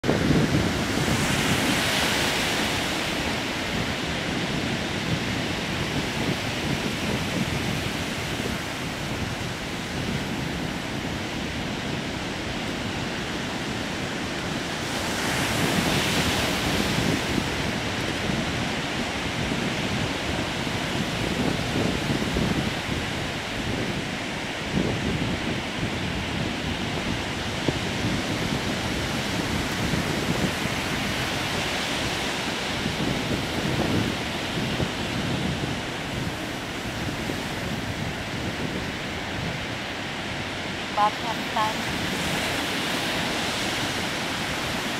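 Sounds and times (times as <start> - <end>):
surf breaking on beach: 0.0 - 44.9
wind buffeting microphone: 0.0 - 44.9.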